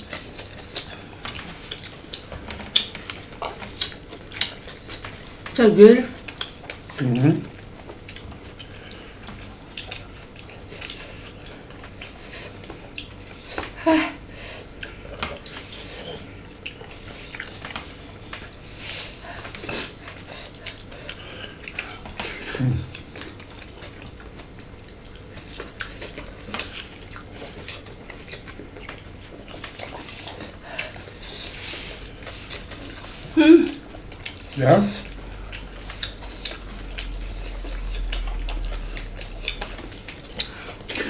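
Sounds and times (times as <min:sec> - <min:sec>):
eating by hand: 0:00.0 - 0:41.0.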